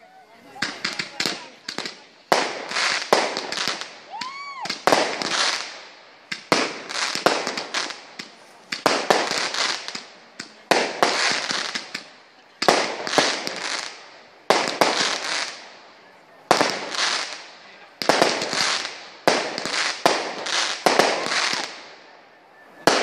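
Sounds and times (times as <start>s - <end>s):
firework crackle and pops: 0.4s - 23.0s
firework bangs: 0.5s - 22.2s, 22.8s - 23.0s.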